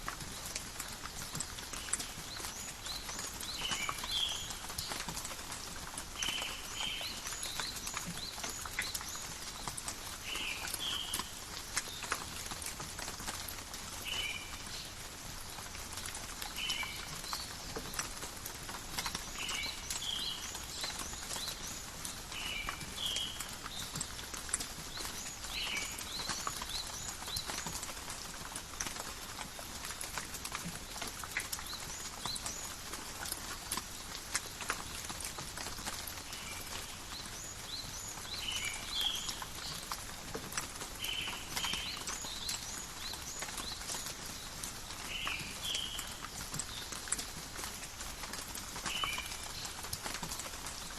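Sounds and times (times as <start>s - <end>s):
rain pattering in forest: 0.0s - 50.9s.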